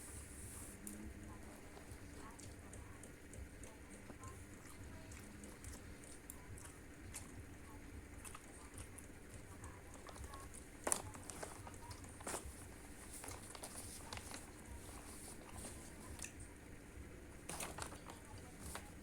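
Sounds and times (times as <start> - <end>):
chewing: 0.8 - 16.5.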